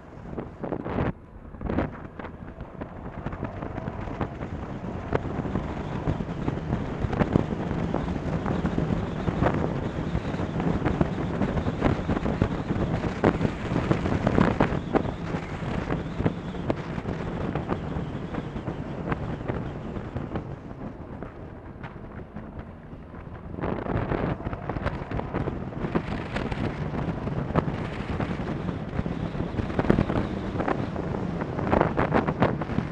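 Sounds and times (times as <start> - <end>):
wind buffeting microphone: 0.0 - 32.9
motorcycle engine running: 0.2 - 32.9.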